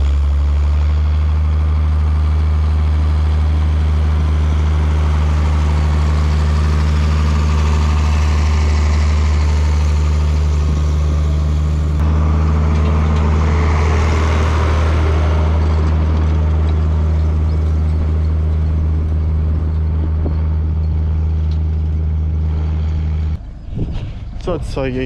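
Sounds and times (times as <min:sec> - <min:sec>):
steady low drone: 0:00.0 - 0:25.0
tractor diesel engine under load: 0:00.0 - 0:25.0.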